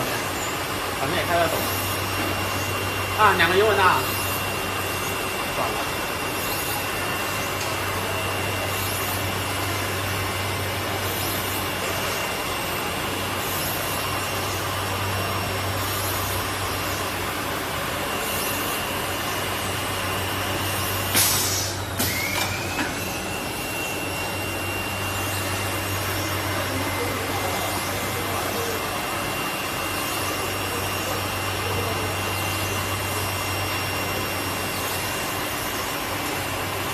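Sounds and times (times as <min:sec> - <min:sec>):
robot motor whine: 0:00.0 - 0:36.9.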